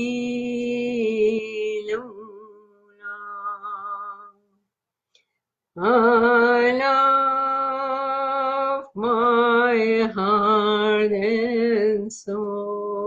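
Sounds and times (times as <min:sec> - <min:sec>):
woman singing unaccompanied: 0:00.0 - 0:04.4, 0:05.8 - 0:13.0.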